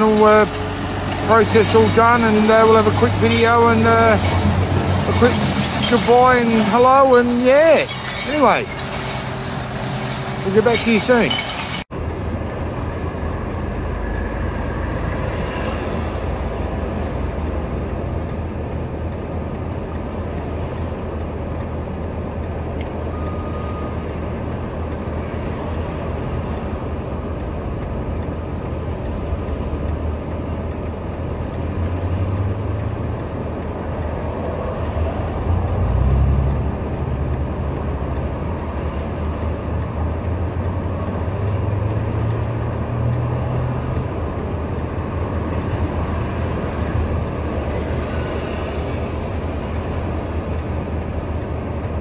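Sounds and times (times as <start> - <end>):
passing road traffic: 0.0 - 52.0
track loader diesel engine: 0.0 - 52.0.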